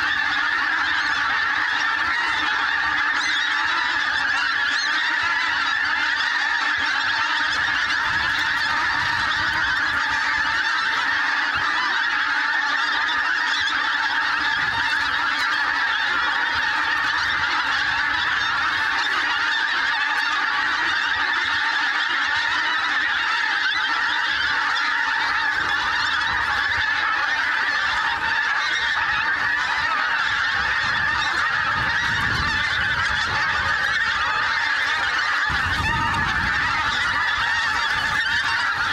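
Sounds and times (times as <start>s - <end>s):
geese honking: 0.0s - 38.9s.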